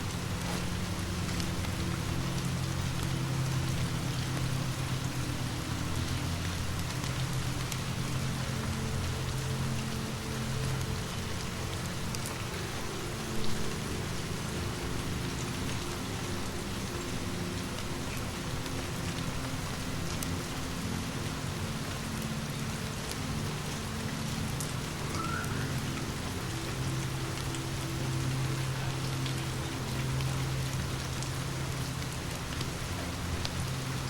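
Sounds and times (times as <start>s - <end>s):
fireplace crackles: 0.0s - 34.0s
steady rain falling: 0.0s - 34.0s.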